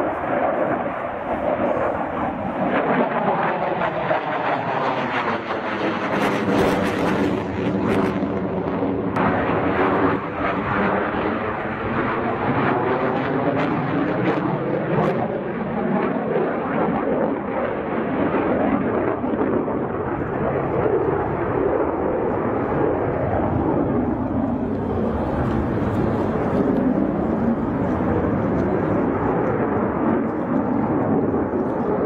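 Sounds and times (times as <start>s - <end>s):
jet engine roaring: 0.0s - 32.0s.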